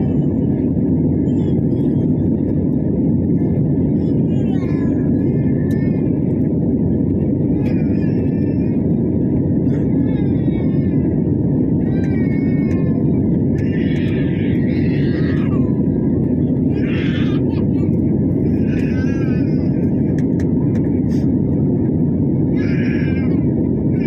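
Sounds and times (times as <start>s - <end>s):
faint passenger voices: 0.0s - 24.0s
jet engine rumble: 0.0s - 24.0s
rushing air: 0.0s - 24.0s.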